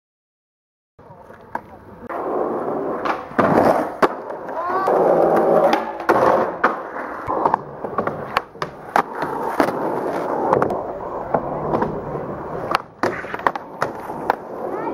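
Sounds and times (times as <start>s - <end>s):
skateboard wheels rolling on concrete: 1.0s - 14.9s
skateboard clacking on ground: 2.9s - 14.9s.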